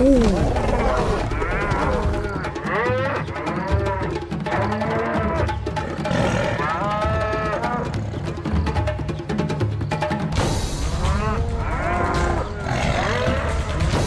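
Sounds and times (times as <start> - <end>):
buffalo calling: 0.0 - 8.3, 10.8 - 14.0
background music with drum beat: 0.0 - 14.0.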